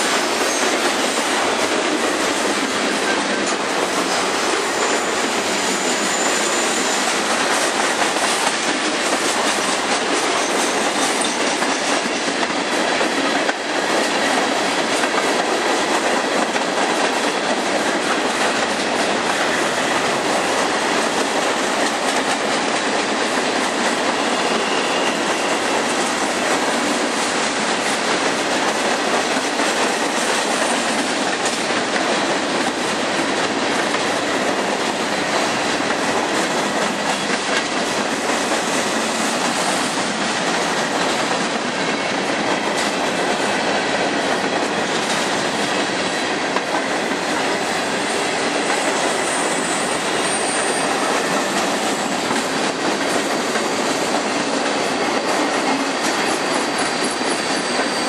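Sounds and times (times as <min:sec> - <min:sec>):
train wheels rolling on rails: 0:00.0 - 0:58.0.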